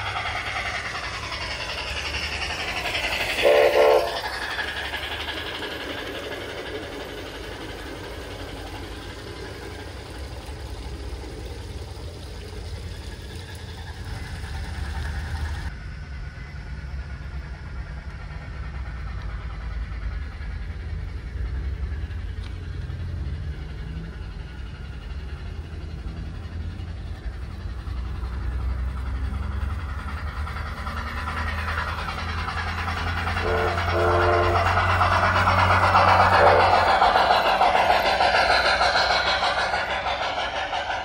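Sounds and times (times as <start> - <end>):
model steam locomotive rumble: 0.0 - 41.0
wheels on rails: 0.0 - 41.0.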